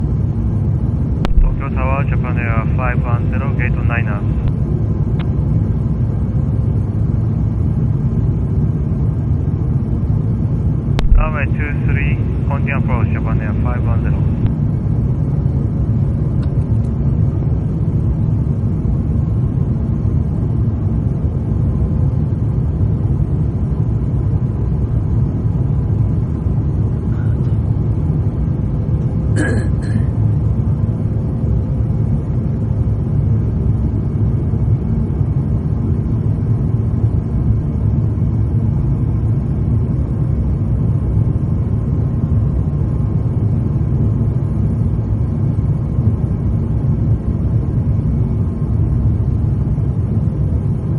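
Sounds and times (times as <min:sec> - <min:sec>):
faint steady hum: 0:00.0 - 0:50.9
jet engine rumble inside cabin: 0:00.0 - 0:50.9.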